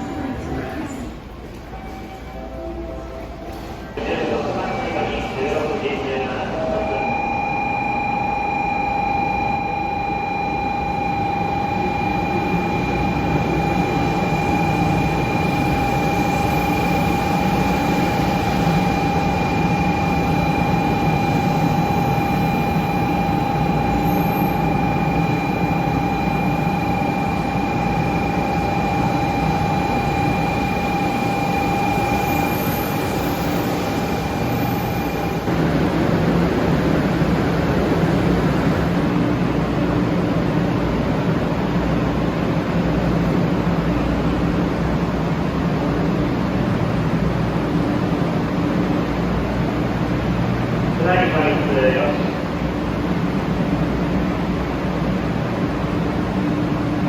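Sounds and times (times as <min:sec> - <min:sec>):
high whine: 0:04.0 - 0:57.0.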